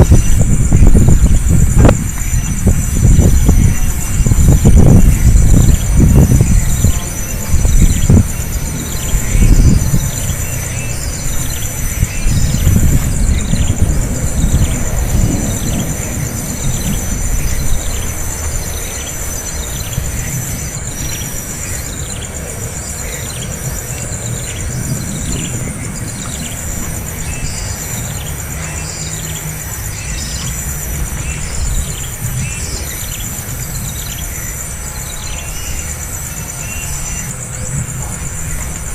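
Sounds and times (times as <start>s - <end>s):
bird chirping: 0.0s - 38.9s
high-pitched insect drone: 0.0s - 38.9s.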